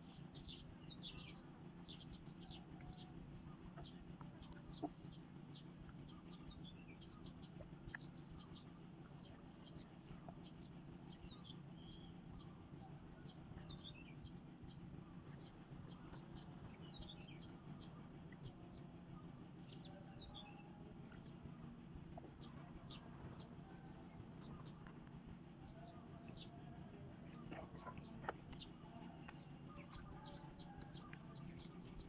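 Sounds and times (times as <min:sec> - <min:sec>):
low background rumble: 0:00.0 - 0:32.0
small birds chirping: 0:00.0 - 0:32.0.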